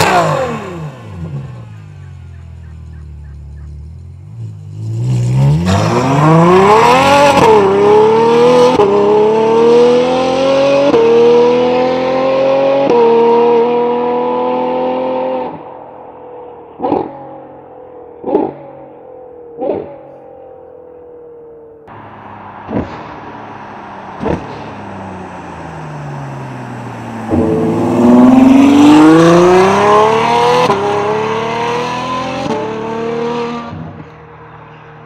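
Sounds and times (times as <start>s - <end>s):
car engine howling under acceleration: 0.0s - 35.0s.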